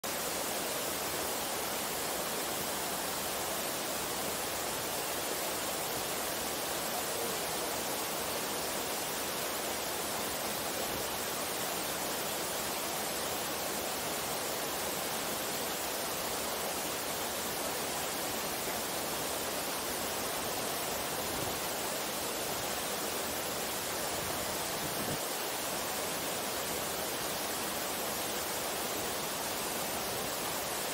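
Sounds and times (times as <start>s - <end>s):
water rushing over rocks: 0.0s - 30.9s.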